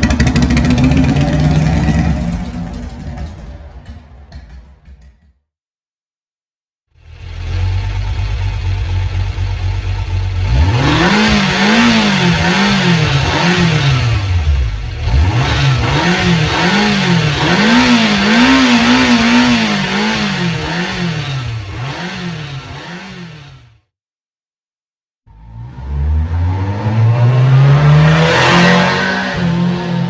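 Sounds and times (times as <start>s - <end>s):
motorcycle engine revving: 0.0s - 5.3s, 7.0s - 23.9s, 25.3s - 30.0s.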